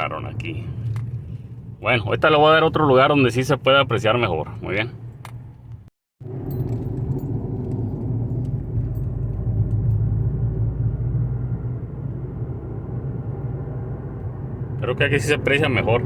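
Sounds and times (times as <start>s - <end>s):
car road noise with low drone: 0.0s - 16.0s.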